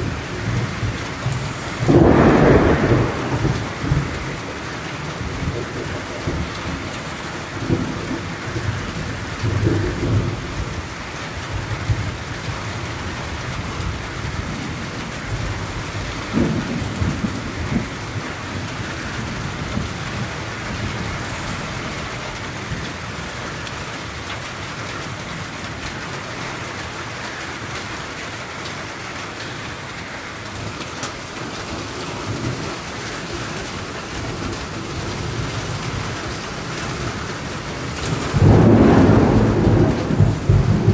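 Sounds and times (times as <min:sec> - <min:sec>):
thunder rumbling: 0:00.0 - 0:23.4, 0:26.5 - 0:40.9
steady rain falling: 0:00.0 - 0:40.9.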